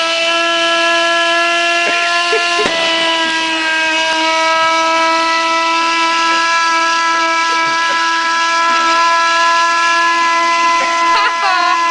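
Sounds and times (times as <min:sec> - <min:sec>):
car engine screaming: 0:00.0 - 0:11.9.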